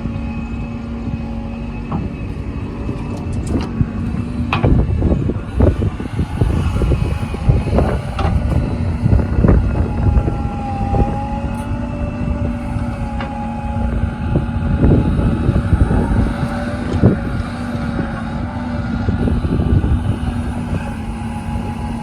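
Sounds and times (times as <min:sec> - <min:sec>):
diesel engines running: 0:00.0 - 0:22.0
faint whine: 0:00.0 - 0:22.0.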